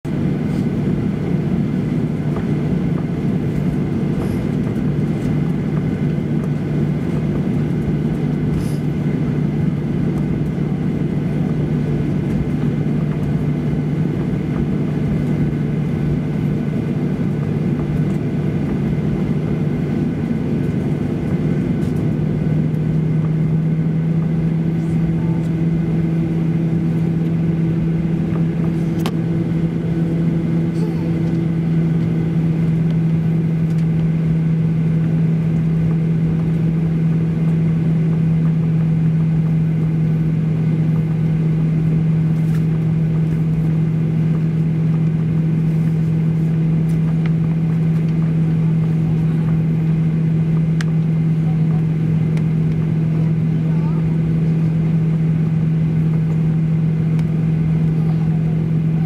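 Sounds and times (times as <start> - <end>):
jet engines humming: 0.1 - 59.0.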